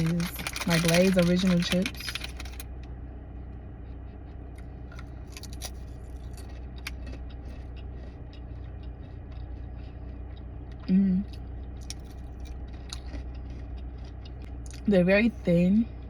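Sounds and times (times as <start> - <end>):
cracker crunching: 0.0 - 14.9
steady low hum: 0.0 - 16.0.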